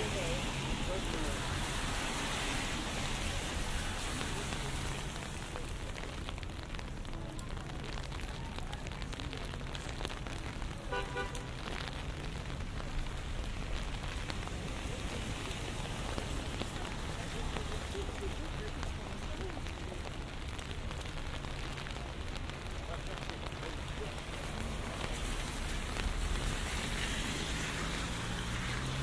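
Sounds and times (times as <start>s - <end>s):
rain on a street: 0.0s - 29.0s
traffic rumble: 0.0s - 29.0s.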